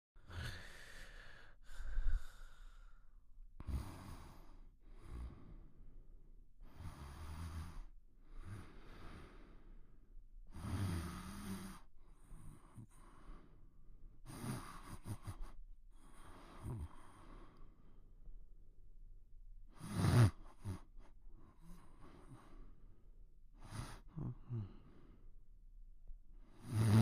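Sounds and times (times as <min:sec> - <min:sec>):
heavy breathing with soft snoring: 0:00.2 - 0:18.3, 0:19.7 - 0:25.6, 0:26.4 - 0:27.0.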